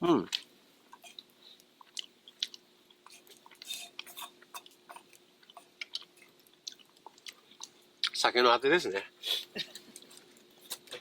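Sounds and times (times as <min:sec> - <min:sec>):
person chewing food: 0:00.2 - 0:08.2, 0:09.6 - 0:11.0.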